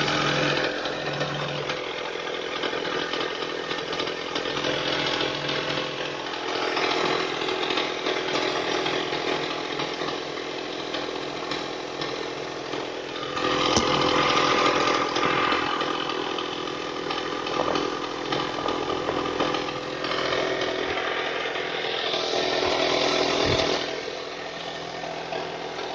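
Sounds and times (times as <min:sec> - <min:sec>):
petrol engine buzzing: 0:00.0 - 0:25.9.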